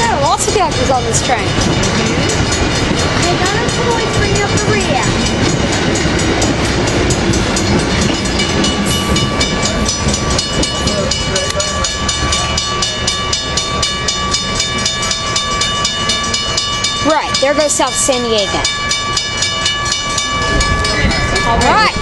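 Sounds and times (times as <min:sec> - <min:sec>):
steady high tone: 0:00.0 - 0:22.0
train rumble: 0:00.0 - 0:22.0
train wheels clicking over rail joints: 0:00.0 - 0:22.0.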